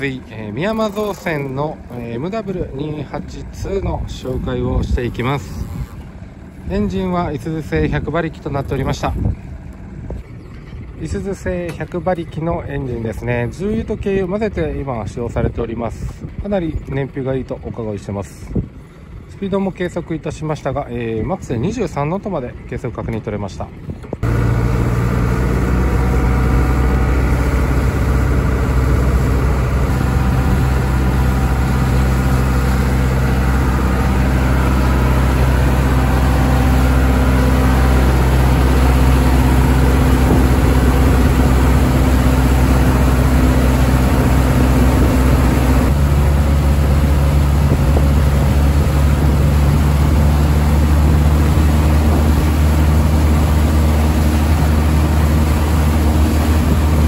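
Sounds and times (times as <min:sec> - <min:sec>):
boat diesel engine running: 0:00.0 - 0:57.0.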